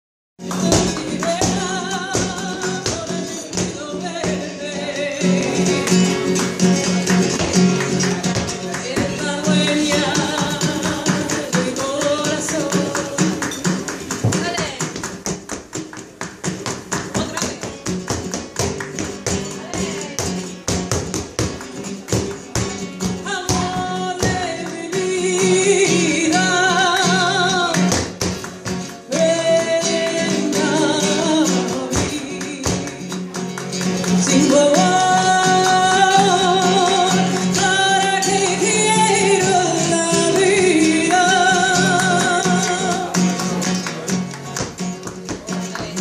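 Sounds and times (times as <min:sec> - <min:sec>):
acoustic guitar: 0:00.4 - 0:46.0.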